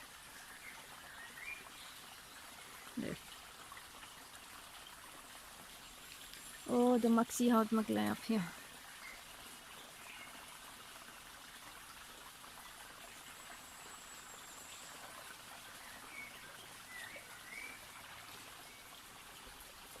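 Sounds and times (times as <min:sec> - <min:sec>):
flowing water: 0:00.0 - 0:20.0.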